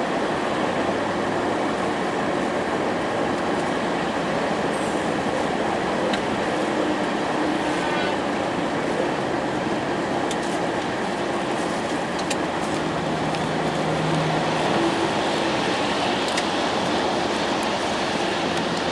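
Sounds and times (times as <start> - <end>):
tyre and road noise on slush: 0.0 - 18.9.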